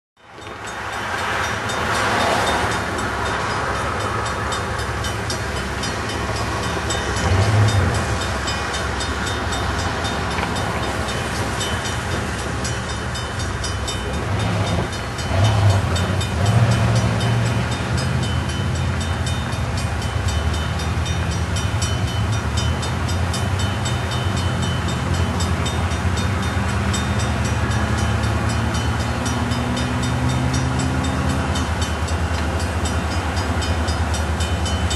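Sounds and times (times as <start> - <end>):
diesel locomotive rumble: 0.2 - 34.9
railroad crossing bell ringing: 0.2 - 34.9.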